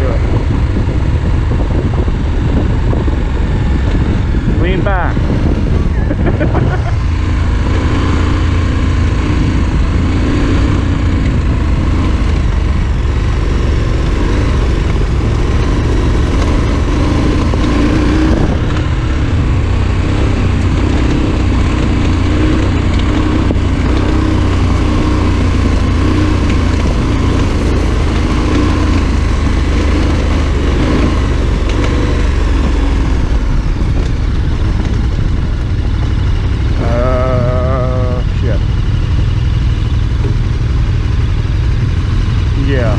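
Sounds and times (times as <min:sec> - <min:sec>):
motorcycle engine running: 0:00.0 - 0:42.9
wind rumble on microphone: 0:00.0 - 0:42.9.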